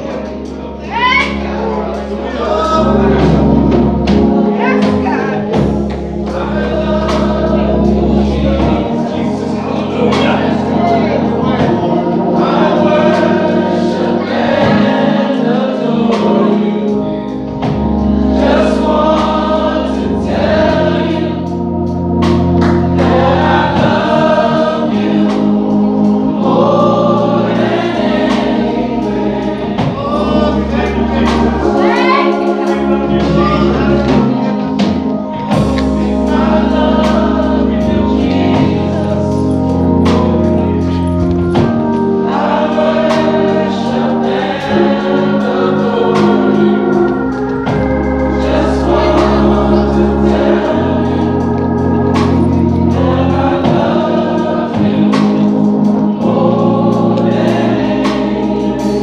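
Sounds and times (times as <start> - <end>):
bass: 0.0 - 59.0
organ: 0.0 - 59.0
voices singing together: 0.0 - 59.0
drums: 2.6 - 12.1, 17.5 - 21.2, 22.2 - 51.3, 51.9 - 59.0.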